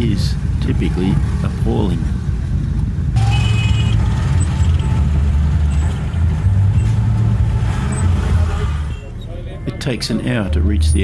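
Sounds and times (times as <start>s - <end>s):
road noise: 0.0s - 11.0s
vehicle engines rumbling: 0.0s - 11.0s.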